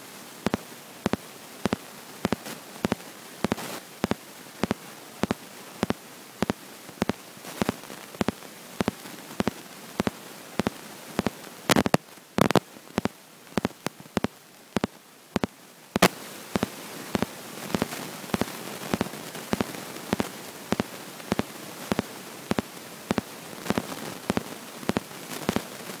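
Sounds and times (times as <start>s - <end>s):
sharp regular clicks: 0.5s - 25.7s.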